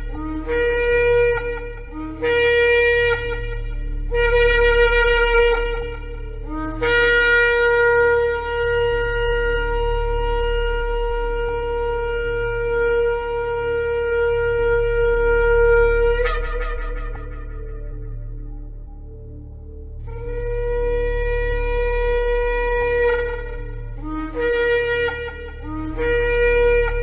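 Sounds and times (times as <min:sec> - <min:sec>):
ram's horn blasts: 0:00.0 - 0:19.2, 0:20.1 - 0:27.0
steady low hum: 0:00.0 - 0:27.0.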